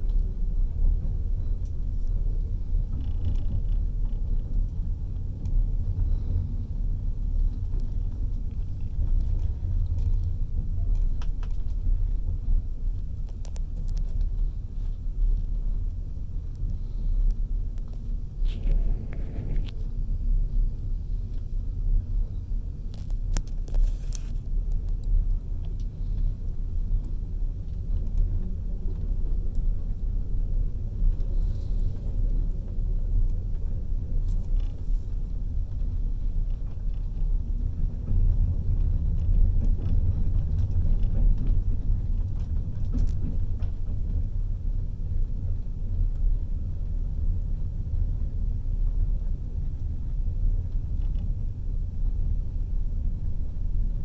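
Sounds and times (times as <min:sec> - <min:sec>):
passenger train rumbling: 0:00.0 - 0:54.0.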